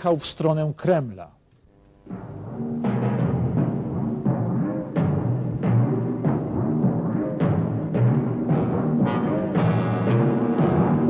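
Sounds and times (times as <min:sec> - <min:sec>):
title music with timpani: 0:02.1 - 0:11.0.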